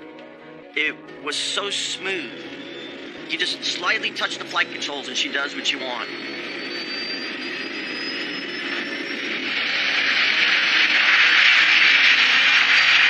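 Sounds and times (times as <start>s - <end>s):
jet engines roaring at takeoff: 1.4s - 13.0s.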